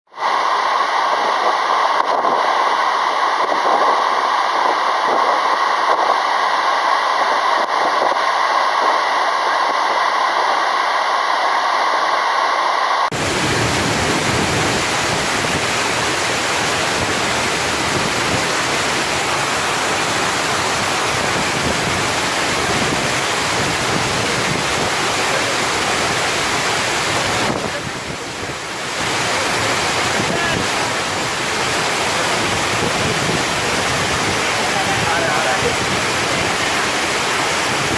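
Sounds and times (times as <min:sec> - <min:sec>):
waterfall roaring: 0:00.2 - 0:37.9.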